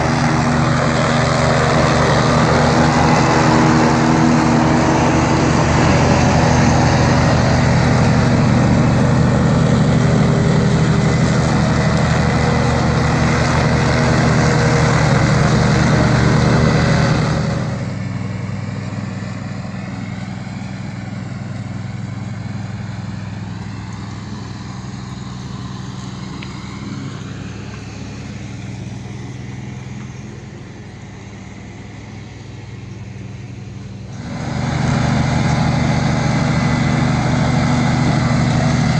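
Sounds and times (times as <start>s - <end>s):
ride-on mower engine running: 0.0s - 38.9s.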